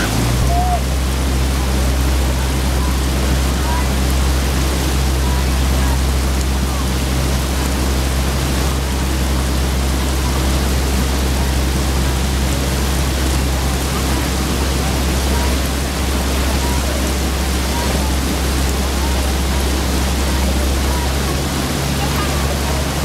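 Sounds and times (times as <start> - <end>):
low rumble: 0.0 - 23.0
rain falling on water: 0.0 - 23.0.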